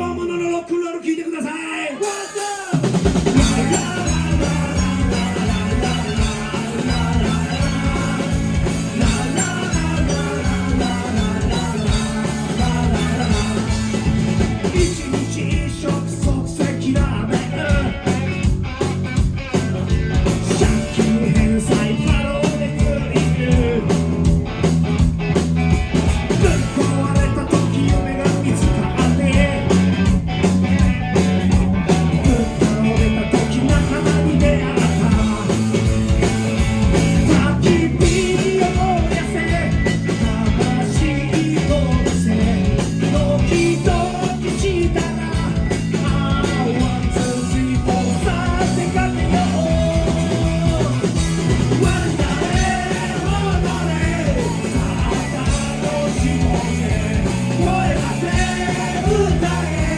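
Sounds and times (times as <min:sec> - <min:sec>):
driving drum beat: 0:02.0 - 0:59.9
rock band playing live: 0:02.0 - 0:59.9.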